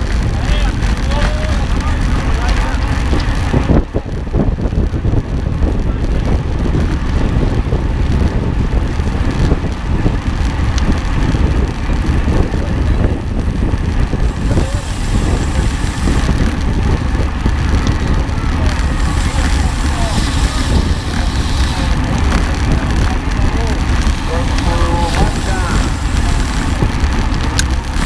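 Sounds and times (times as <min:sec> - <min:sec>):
vehicle running: 0:00.0 - 0:28.0.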